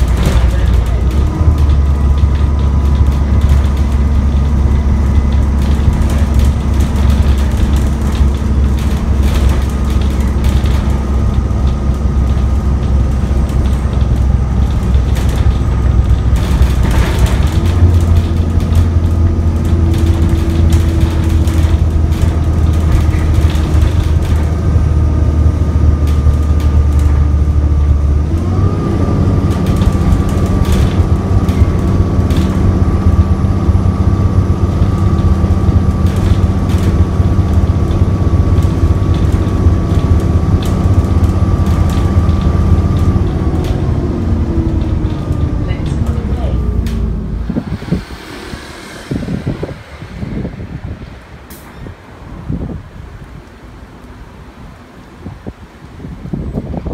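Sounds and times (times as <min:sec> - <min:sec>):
bus diesel engine whining: 0:00.0 - 0:56.9
rattles and clicks in bus: 0:00.0 - 0:56.9.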